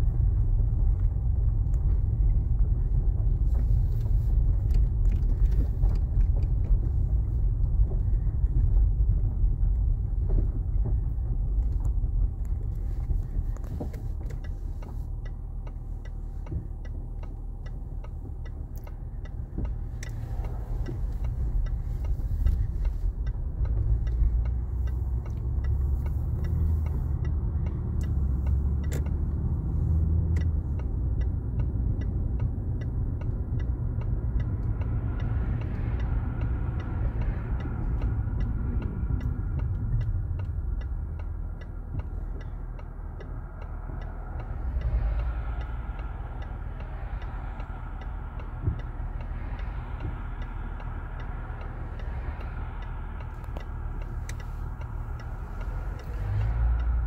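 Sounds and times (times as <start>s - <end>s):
car engine and tyres rumbling: 0.0s - 57.0s
turn signal ticking: 0.0s - 57.0s.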